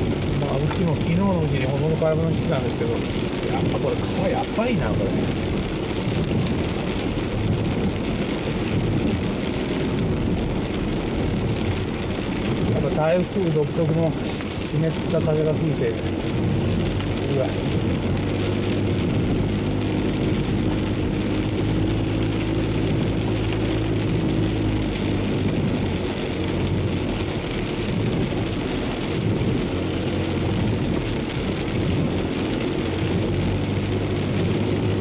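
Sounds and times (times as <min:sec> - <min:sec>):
car engine and road noise: 0:00.0 - 0:35.0
heavy rain hissing on car: 0:00.0 - 0:35.0.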